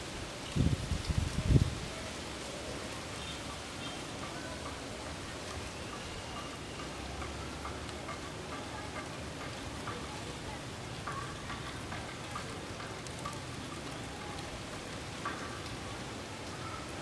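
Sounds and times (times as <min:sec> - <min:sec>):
wind hiss: 0:00.0 - 0:17.0.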